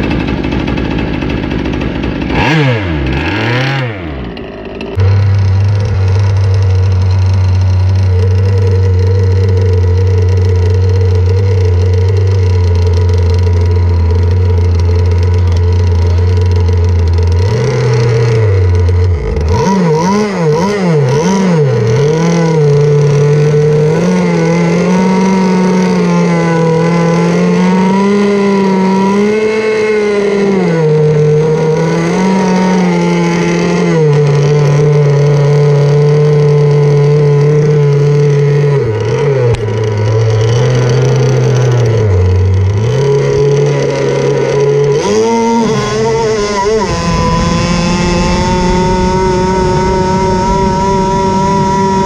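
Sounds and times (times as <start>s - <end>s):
two-stroke boat engine revving: 0.0s - 52.0s.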